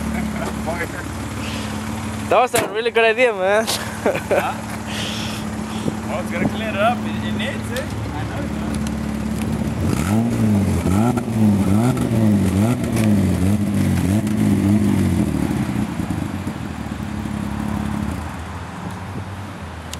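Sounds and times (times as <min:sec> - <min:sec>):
car engine revving and idling: 0:00.0 - 0:18.9.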